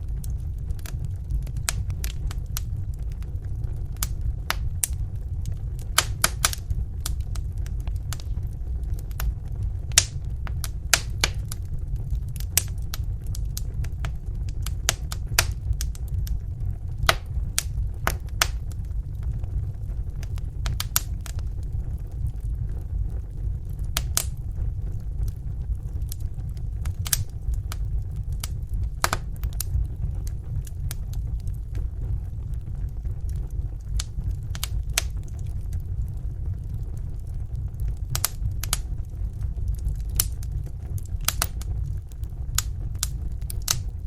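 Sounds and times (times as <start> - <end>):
low rumble of flames: 0.0 - 44.0
wood fire crackling: 0.0 - 44.0.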